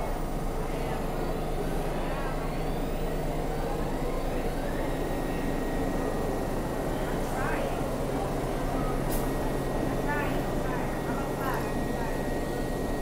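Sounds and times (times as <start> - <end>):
subway train humming: 0.0 - 13.0.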